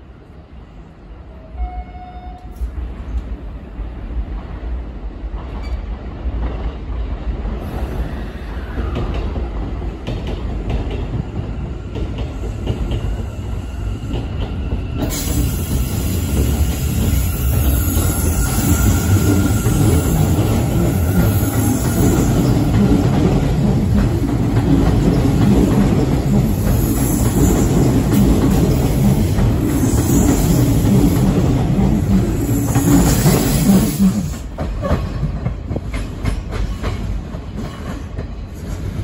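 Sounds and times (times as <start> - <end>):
train wheels rumbling on rails: 2.3 - 39.0.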